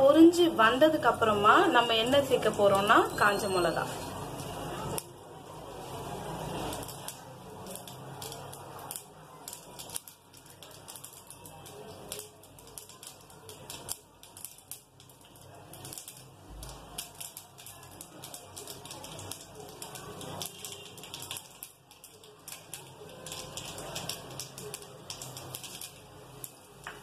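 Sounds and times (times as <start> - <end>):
seeds spluttering in hot oil: 0.0 - 27.0.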